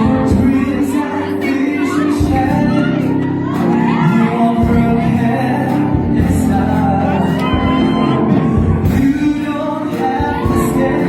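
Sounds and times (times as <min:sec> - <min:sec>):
person singing with accompaniment: 0:00.0 - 0:11.0.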